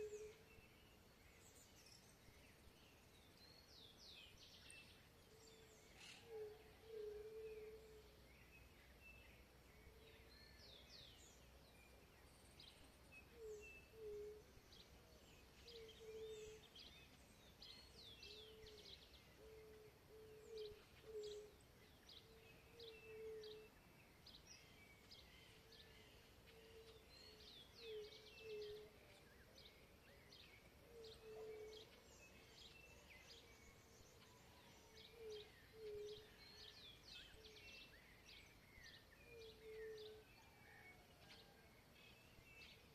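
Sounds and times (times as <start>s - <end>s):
birds chirping and trilling: 0.0s - 42.9s.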